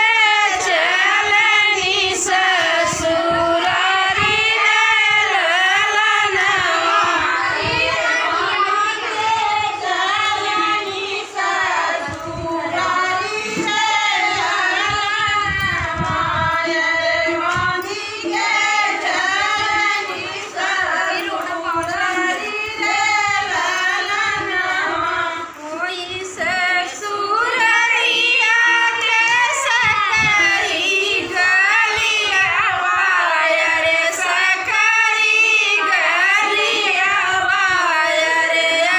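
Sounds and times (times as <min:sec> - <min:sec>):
women singing in high voices: 0:00.0 - 0:38.9.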